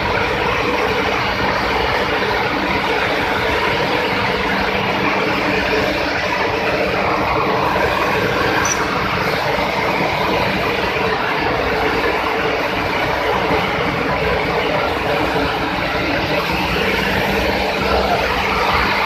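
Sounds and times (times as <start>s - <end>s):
machine running with low hum: 0.0s - 19.0s.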